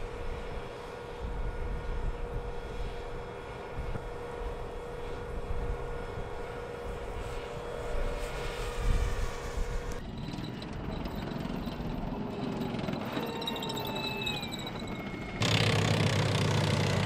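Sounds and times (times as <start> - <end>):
engine drone: 0.0 - 17.0
tank turbine engine rumble and whine: 0.0 - 17.0.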